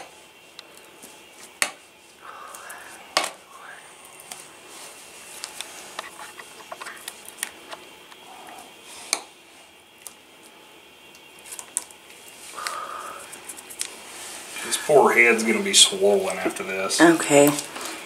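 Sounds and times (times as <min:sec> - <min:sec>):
low room hiss: 0:00.0 - 0:18.0.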